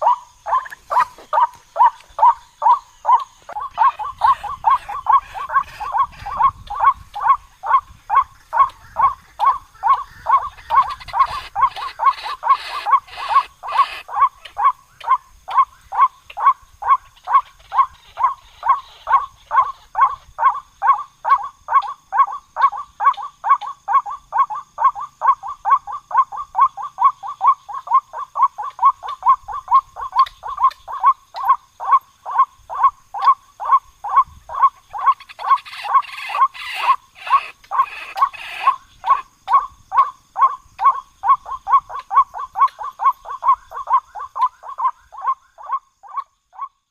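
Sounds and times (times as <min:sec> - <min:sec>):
waterhen calling: 0:00.0 - 0:46.7.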